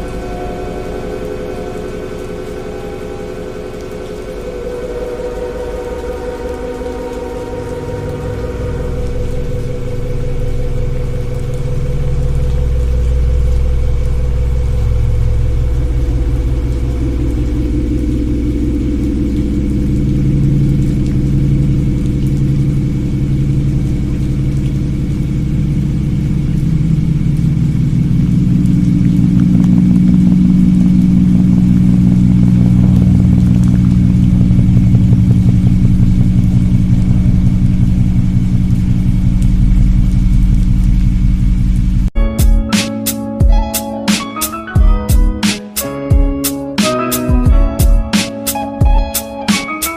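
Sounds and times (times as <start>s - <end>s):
loud low drone: 0.0s - 44.0s.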